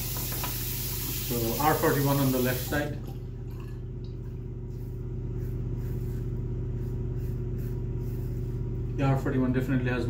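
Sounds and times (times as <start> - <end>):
steady low hum: 0.8 - 10.0.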